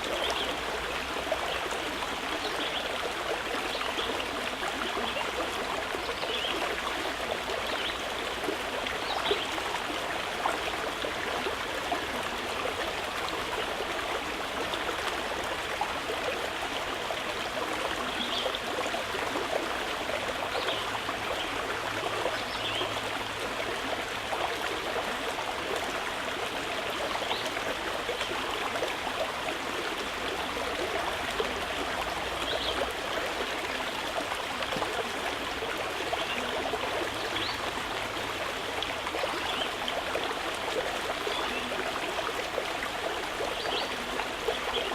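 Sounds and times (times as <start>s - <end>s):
water flowing over stones: 0.0s - 44.9s.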